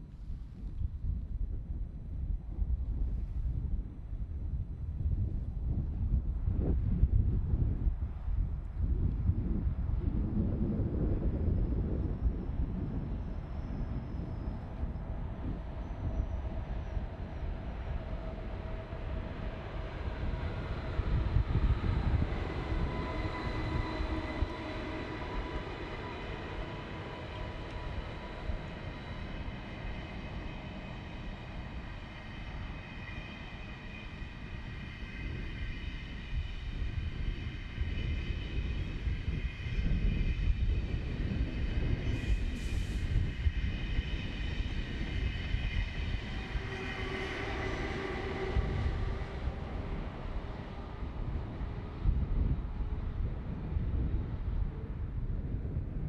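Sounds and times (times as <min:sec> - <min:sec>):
train rumbling and whining past: 0:01.6 - 0:56.0.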